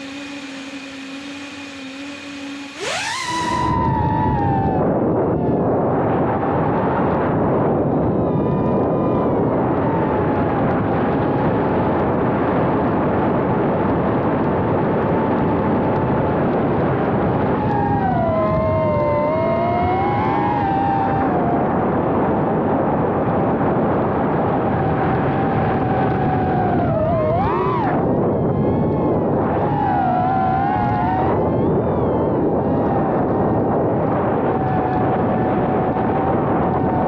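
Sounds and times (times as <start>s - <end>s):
drone motors whining: 0.0s - 22.7s, 24.5s - 37.0s.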